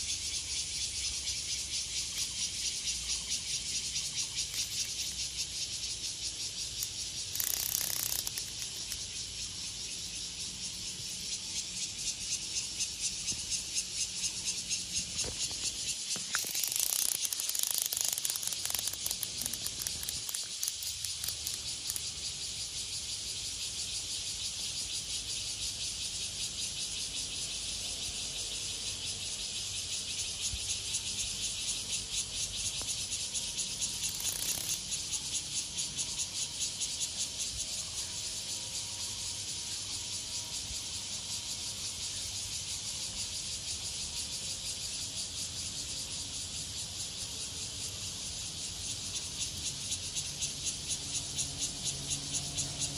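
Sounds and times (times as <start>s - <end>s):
cicadas buzzing: 0.0s - 52.9s.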